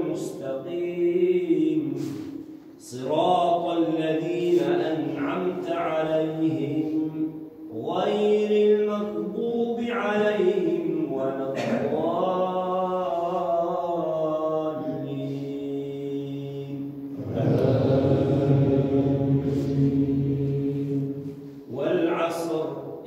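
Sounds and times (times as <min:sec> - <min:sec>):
man chanting recitation: 0:00.0 - 0:23.0.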